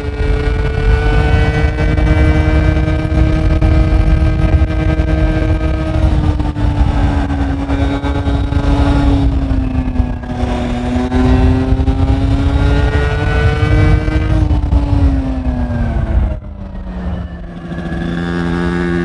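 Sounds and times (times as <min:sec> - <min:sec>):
scooter engine revving: 0:00.0 - 0:15.7.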